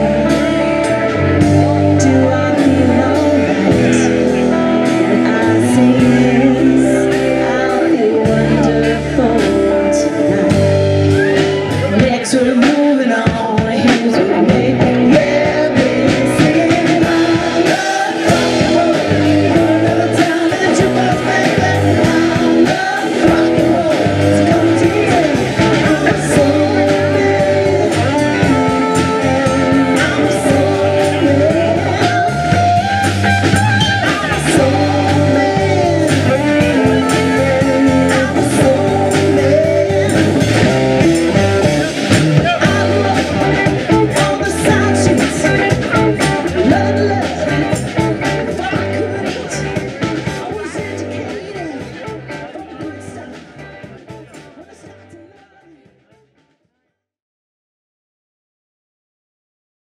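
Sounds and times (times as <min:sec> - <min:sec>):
woman singing lead: 0:00.0 - 0:55.8
electric guitar: 0:00.0 - 0:56.0
bass guitar: 0:00.0 - 0:56.5
drum kit: 0:00.0 - 0:56.5.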